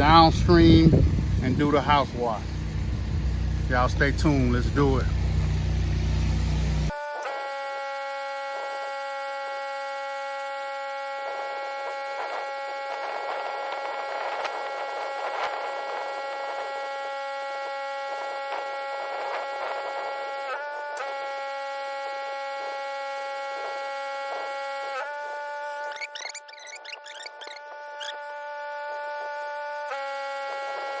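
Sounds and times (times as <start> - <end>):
hum of held tones: 0.0 - 31.0.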